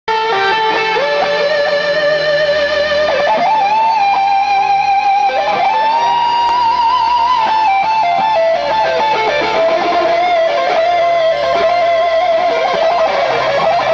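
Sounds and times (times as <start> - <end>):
electric guitar solo: 0.1 - 13.9.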